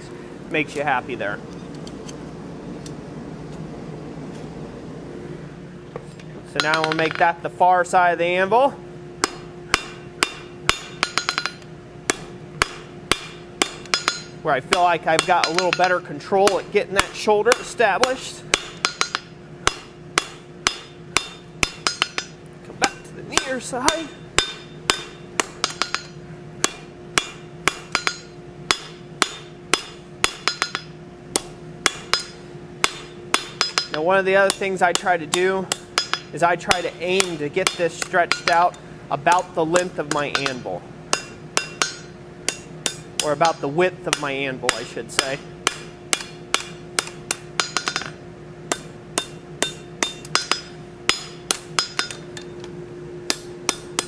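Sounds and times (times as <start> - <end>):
steady low hum: 0.0 - 54.0
hammer striking steel on anvil: 6.6 - 7.3, 9.2 - 52.7, 53.3 - 54.0.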